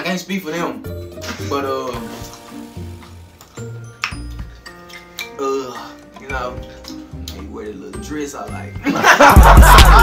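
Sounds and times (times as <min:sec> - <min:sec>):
hip-hop instrumental music: 0:00.0 - 0:10.0.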